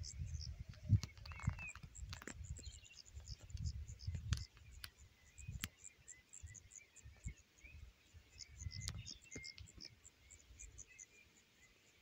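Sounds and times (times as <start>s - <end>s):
soft bird calls: 0.0s - 12.0s.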